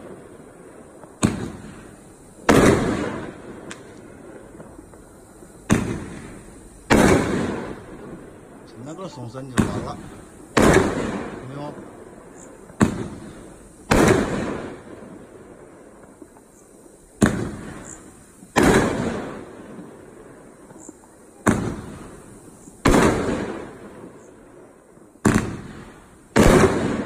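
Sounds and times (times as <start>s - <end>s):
firework shells launching: 0.0s - 8.3s, 9.0s - 16.6s, 17.2s - 24.3s, 25.2s - 27.0s
firework aerial bursts: 0.0s - 27.0s.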